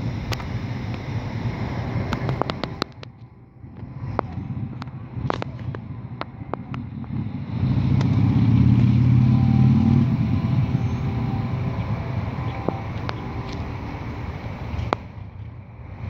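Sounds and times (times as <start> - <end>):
vehicle engine rumble passing: 0.0 - 16.0.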